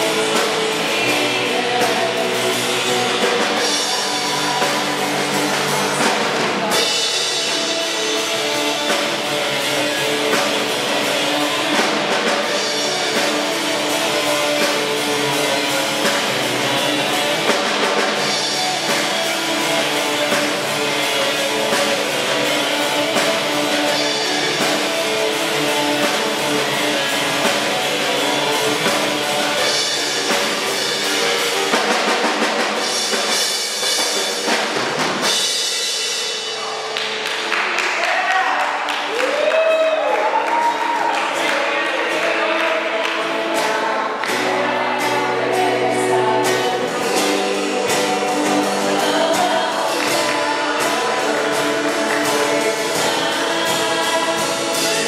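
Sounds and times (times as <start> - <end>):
amplified guitars: 0.0 - 55.0
bass guitar: 0.0 - 55.0
drum kit: 0.0 - 55.0.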